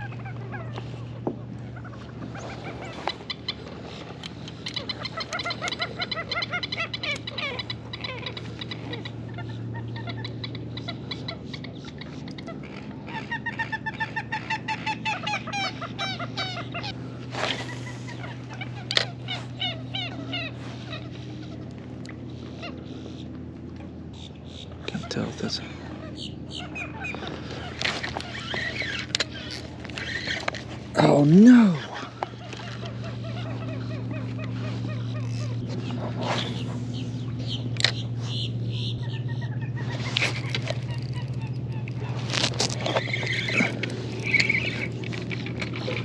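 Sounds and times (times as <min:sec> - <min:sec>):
birds calling and honking: 0:00.0 - 0:46.0
low steady hum: 0:00.0 - 0:46.0.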